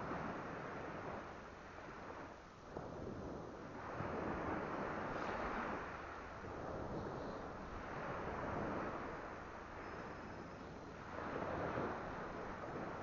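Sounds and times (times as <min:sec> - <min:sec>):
surf on the beach: 0:00.0 - 0:13.0
wind: 0:00.0 - 0:13.0.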